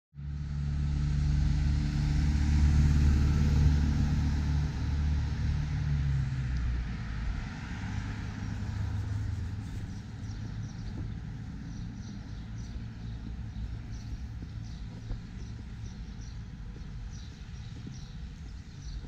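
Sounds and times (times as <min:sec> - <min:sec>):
engine humming: 0:00.2 - 0:19.0.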